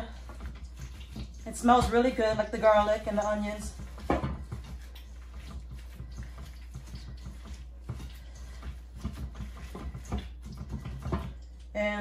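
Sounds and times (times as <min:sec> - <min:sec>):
wet squelches of kneading meat: 0:00.0 - 0:11.8.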